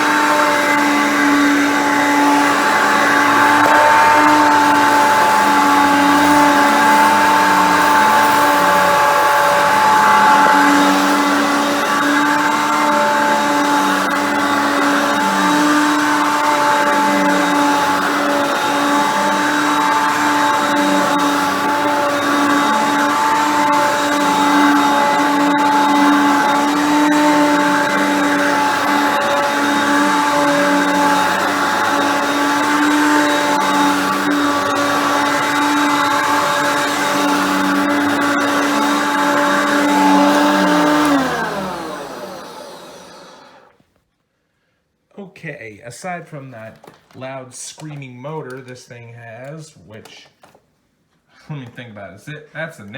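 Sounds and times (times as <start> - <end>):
vacuum cleaner screaming whine: 0.0 - 43.8.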